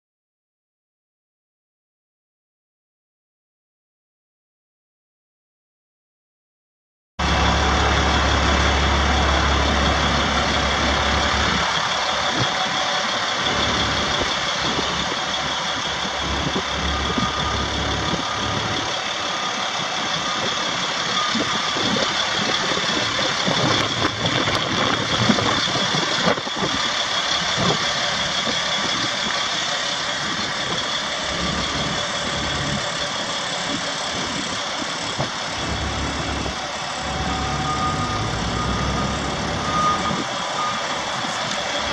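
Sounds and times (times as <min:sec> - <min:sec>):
diesel truck idling: 0:07.2 - 0:41.9
high-pitched whine: 0:07.2 - 0:41.9.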